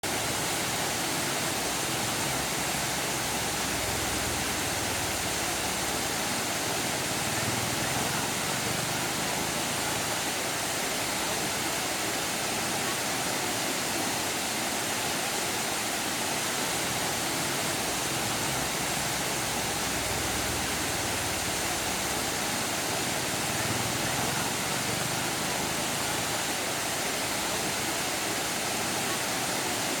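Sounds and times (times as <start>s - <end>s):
water falling over rocks: 0.0s - 30.0s.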